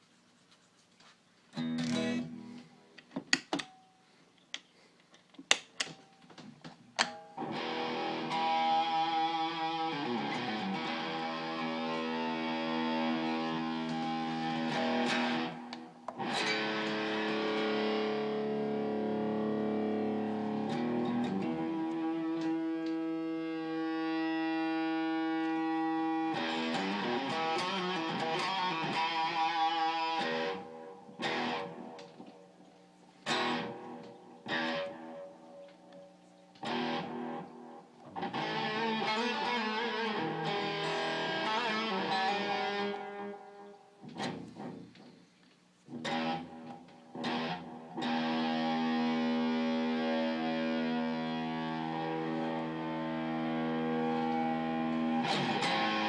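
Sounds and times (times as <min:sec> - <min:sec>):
overdriven guitar chords: 0:01.6 - 0:02.8, 0:07.0 - 0:45.2, 0:45.9 - 0:56.0
electric guitar picked notes: 0:07.0 - 0:45.2, 0:45.9 - 0:56.0.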